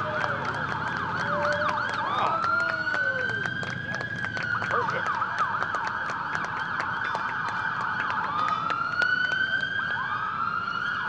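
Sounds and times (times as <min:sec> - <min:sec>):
emergency vehicle sirens: 0:00.0 - 0:11.0.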